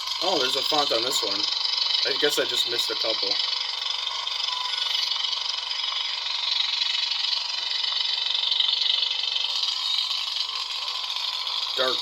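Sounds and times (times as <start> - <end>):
lightsaber buzzing hum: 0.0 - 12.0.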